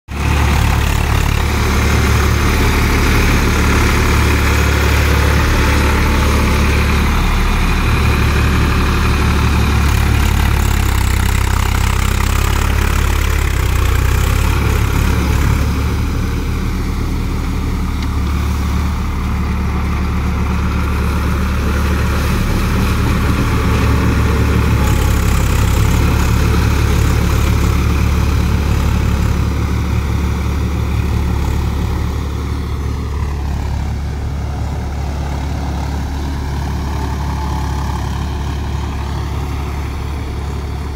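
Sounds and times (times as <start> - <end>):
tractor diesel engine under load: 0.0 - 40.9
rotavator churning through mud: 0.1 - 40.8.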